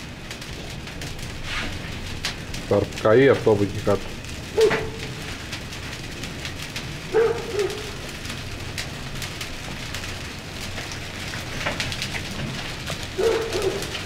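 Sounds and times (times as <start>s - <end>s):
brush fire crackling: 0.0s - 14.0s.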